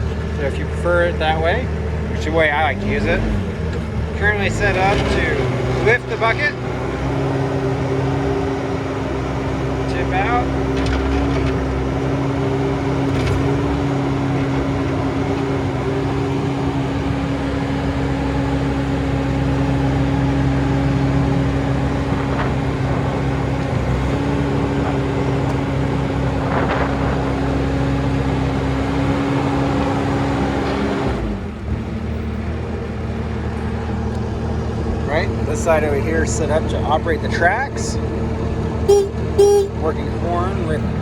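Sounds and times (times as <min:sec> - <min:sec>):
loader diesel engine running: 0:00.0 - 0:41.0.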